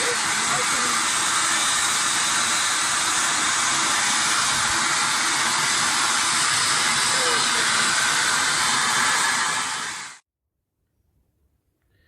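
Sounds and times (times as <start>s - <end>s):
firework fountain hissing sparks: 0.0s - 10.2s.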